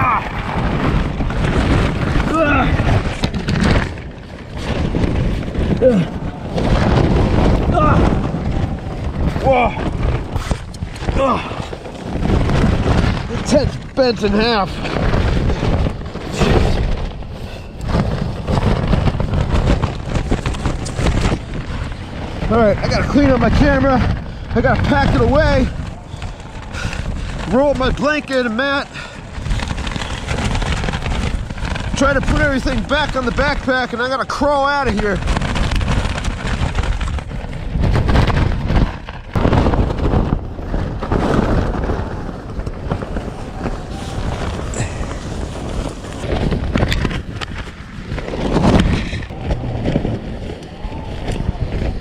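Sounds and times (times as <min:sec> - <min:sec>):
tent fabric flapping: 0:00.0 - 0:52.0
wind gusting on microphone: 0:00.0 - 0:52.0.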